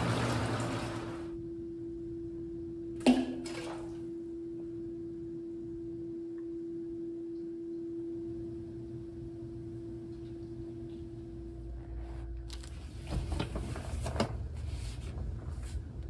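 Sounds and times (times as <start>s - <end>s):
bathtub equipment humming: 0.0s - 16.0s.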